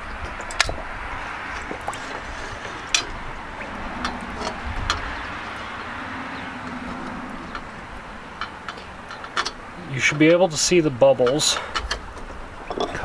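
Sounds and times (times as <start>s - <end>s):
water sloshing and bubbling: 0.0s - 13.0s.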